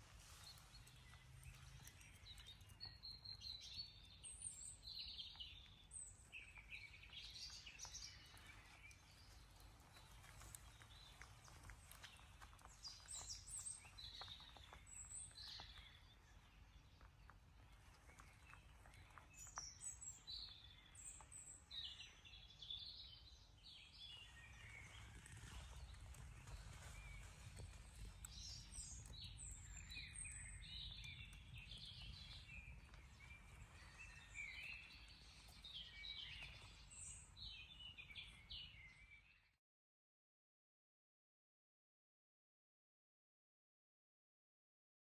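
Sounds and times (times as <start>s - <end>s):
small birds chirping: 0.0s - 39.6s.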